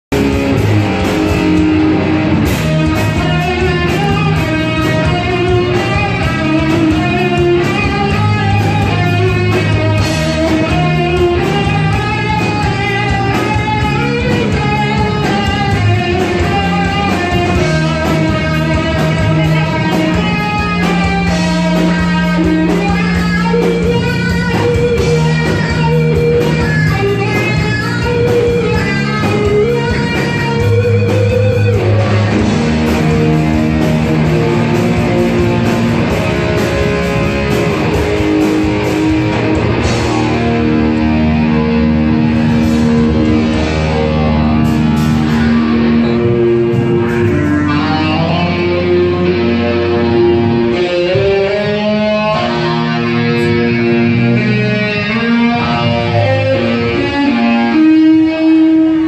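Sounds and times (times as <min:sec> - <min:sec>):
bass: 0:00.0 - 0:59.0
drums: 0:00.0 - 0:59.0
electric guitar: 0:00.0 - 0:59.0.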